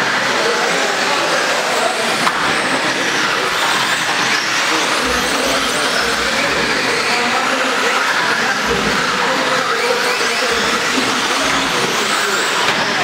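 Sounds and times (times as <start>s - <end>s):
rc car motor whine: 0.0s - 13.0s.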